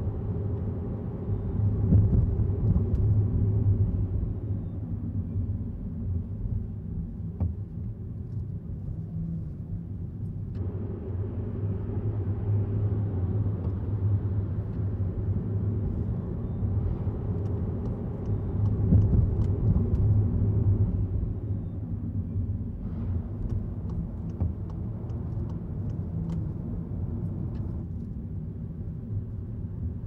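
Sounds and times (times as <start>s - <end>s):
road and tyre noise in car: 0.0s - 30.0s.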